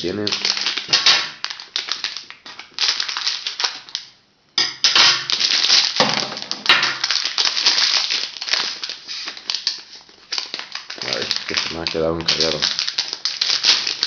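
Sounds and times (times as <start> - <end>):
plastic packaging crinkling: 0.0 - 4.2, 4.8 - 14.0.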